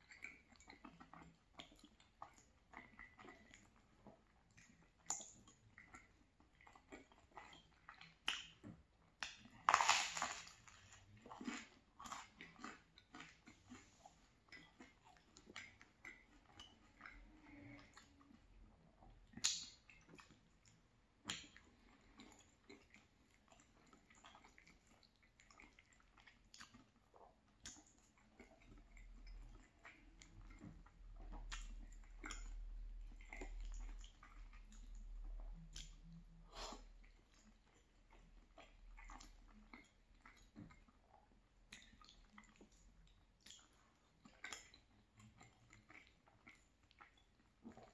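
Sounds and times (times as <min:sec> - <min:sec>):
chewing and wet mouth sounds: 0:00.0 - 0:47.9.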